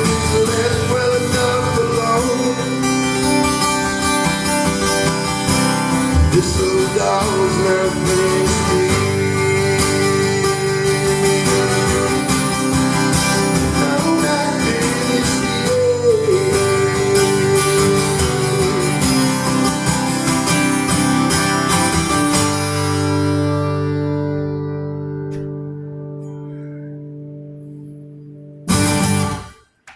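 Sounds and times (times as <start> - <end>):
acoustic guitar strumming: 0.0 - 29.9.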